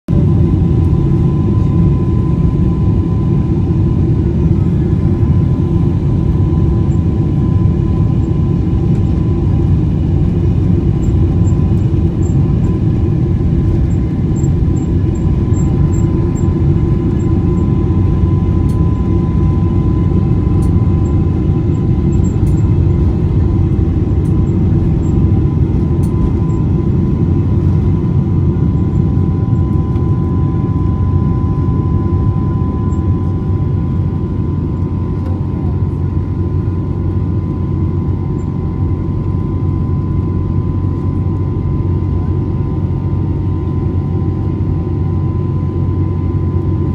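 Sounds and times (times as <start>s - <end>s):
jet engine and airflow rumble: 0.1s - 46.9s
thin steady whine: 0.1s - 46.9s.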